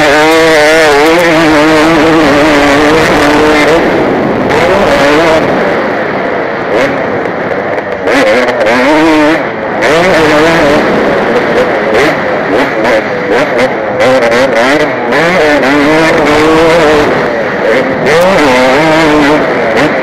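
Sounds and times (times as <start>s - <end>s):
motocross bike engine revving: 0.0s - 20.0s
wind rush on camera: 0.0s - 20.0s.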